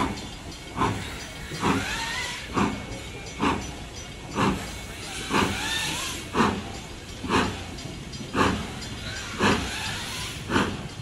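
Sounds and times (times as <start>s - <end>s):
steam hissing: 0.0s - 11.0s
steam locomotive exhaust chuffs: 0.0s - 11.0s.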